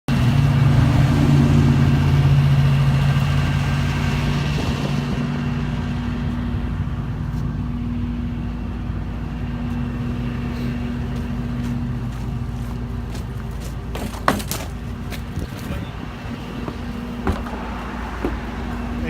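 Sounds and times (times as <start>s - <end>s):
engine running with low hum: 0.1s - 19.0s.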